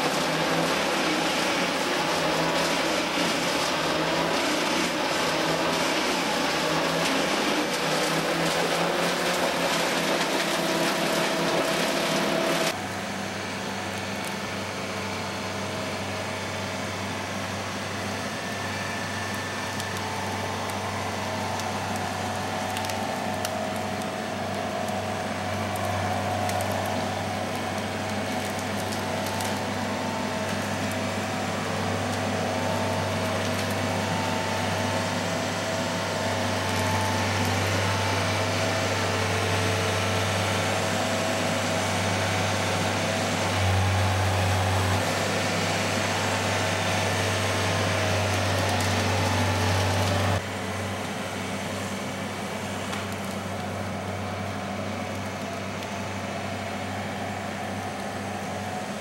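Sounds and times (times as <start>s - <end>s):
engine-driven machinery running: 0.0s - 59.0s.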